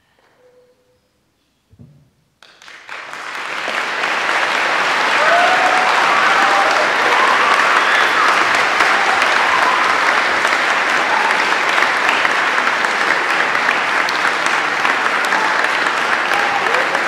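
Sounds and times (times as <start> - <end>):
audience applauding: 2.4 - 17.0.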